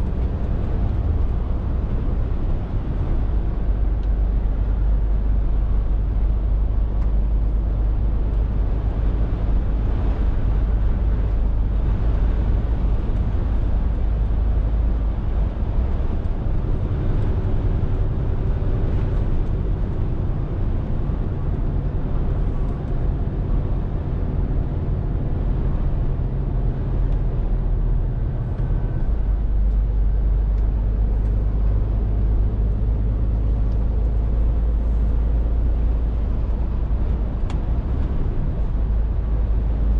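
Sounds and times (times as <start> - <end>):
lorry diesel engine driving: 0.0 - 39.9.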